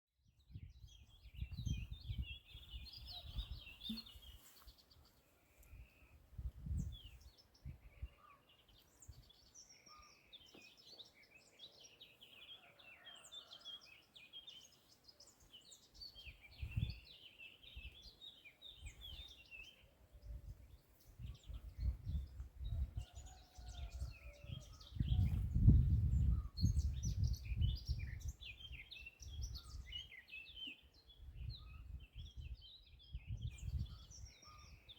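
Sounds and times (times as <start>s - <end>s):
small birds chirping: 0.6s - 34.9s.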